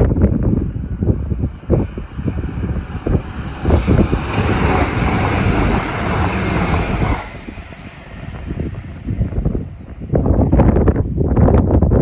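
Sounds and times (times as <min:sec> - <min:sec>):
wind buffeting microphone: 0:00.0 - 0:12.0
electric train passing: 0:00.1 - 0:11.2.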